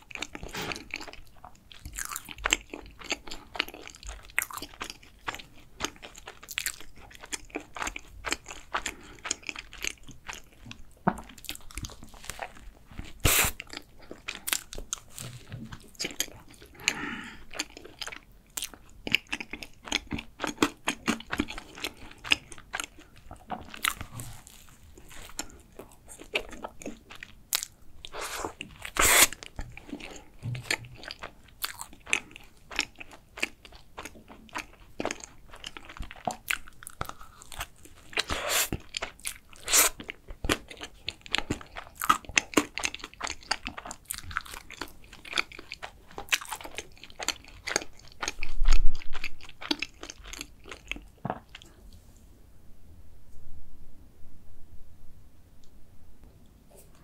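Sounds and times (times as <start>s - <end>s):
crunching pastry while chewing: 0.0s - 51.8s.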